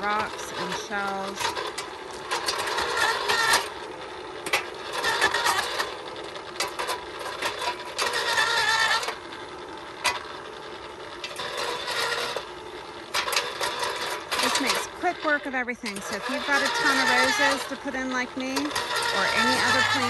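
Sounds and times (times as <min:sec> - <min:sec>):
auger bit grinding through rocks: 0:00.0 - 0:20.0
electric motor whirring: 0:00.0 - 0:20.0.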